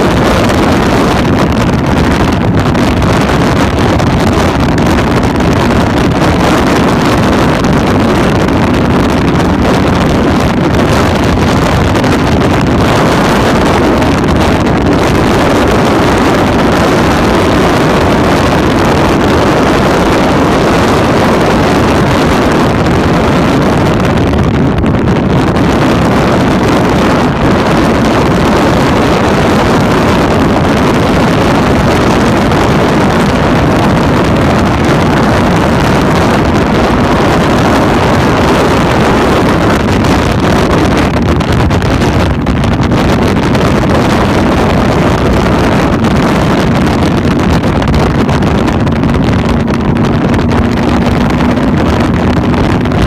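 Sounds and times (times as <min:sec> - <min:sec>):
motorcycle engine drone: 0:00.0 - 0:53.0
wind noise on microphone: 0:00.0 - 0:53.0.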